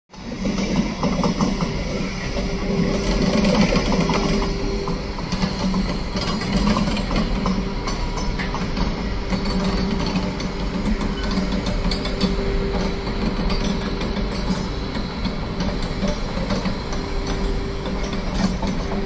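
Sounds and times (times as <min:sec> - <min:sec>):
train wheels clattering on rails: 0:00.1 - 0:19.0.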